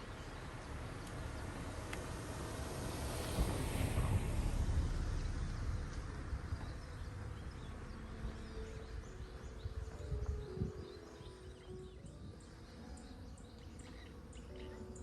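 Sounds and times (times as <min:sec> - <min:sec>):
songbirds chirping: 0:00.0 - 0:03.4, 0:04.6 - 0:15.0
low outdoor rumble: 0:00.0 - 0:15.0.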